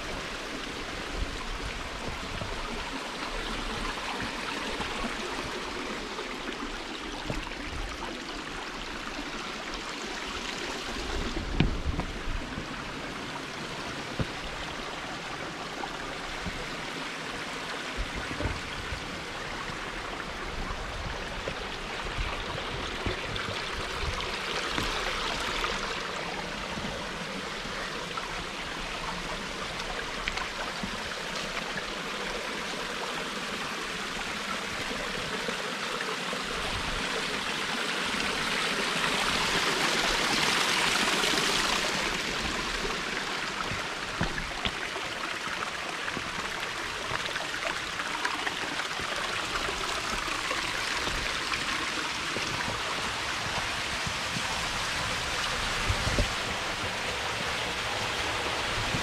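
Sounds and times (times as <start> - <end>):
creek trickling over stones: 0.0 - 59.0.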